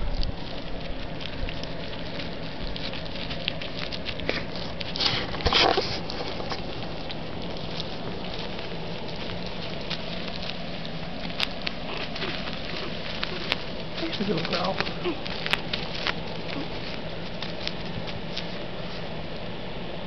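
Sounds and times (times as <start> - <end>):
puppies licking and smacking: 0.0 - 19.5
light rustling: 0.0 - 19.6.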